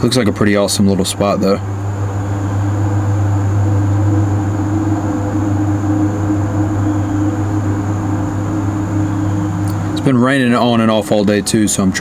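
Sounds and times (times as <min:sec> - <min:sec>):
mechanical hum with high whine: 0:00.0 - 0:12.0.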